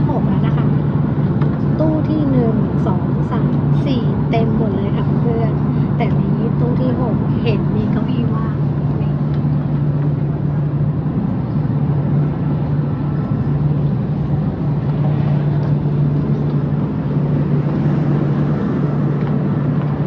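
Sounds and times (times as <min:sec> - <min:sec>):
train cabin hum and rushing: 0:00.0 - 0:20.0.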